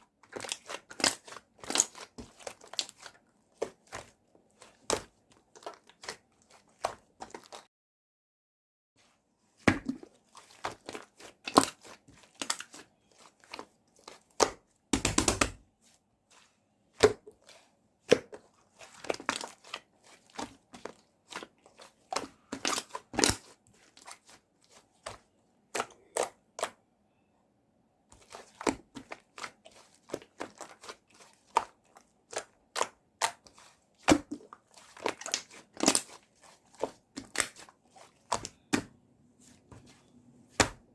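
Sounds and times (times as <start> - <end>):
slime being squished: 0.3 - 7.6, 9.6 - 15.6, 16.9 - 26.8, 28.2 - 39.0.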